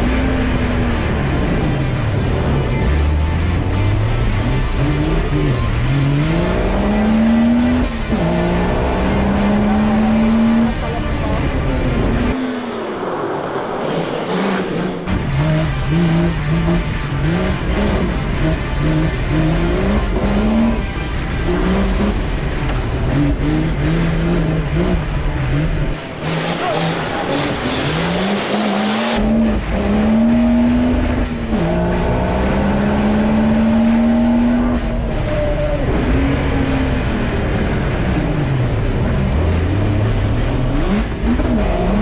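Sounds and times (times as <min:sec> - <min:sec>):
car engine revving through gears: 0:00.0 - 0:12.9, 0:13.8 - 0:42.0.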